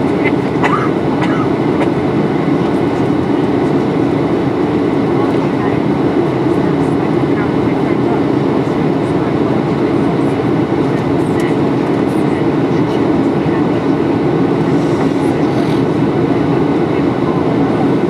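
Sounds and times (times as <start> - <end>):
airflow rumble: 0.0 - 18.0
airplane cabin engine drone: 0.0 - 18.0.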